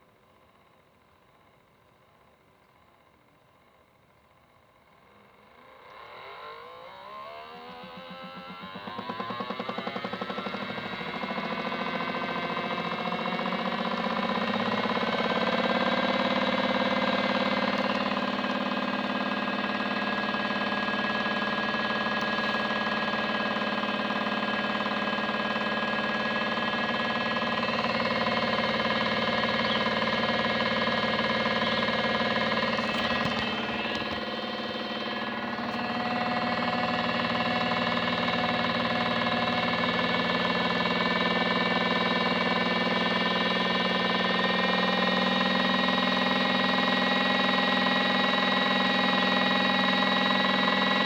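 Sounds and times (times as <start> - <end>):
small electric motor whine: 5.0 - 51.0.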